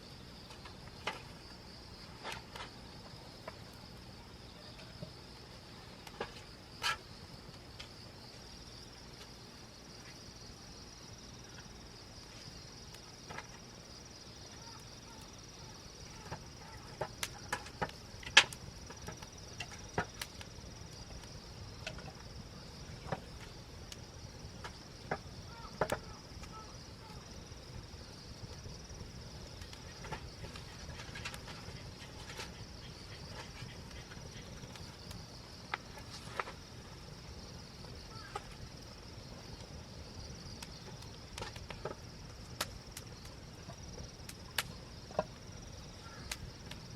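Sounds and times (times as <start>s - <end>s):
campfire wood crackling: 0.0s - 46.9s
insects chorus: 0.0s - 46.9s.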